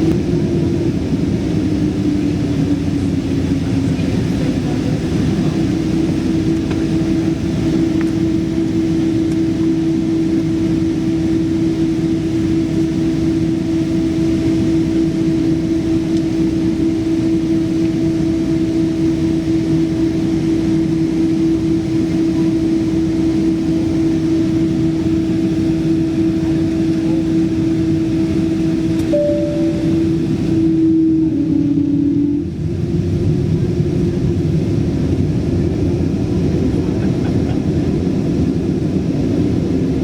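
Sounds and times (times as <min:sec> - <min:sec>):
jet engines roaring in cabin: 0:00.0 - 0:40.0.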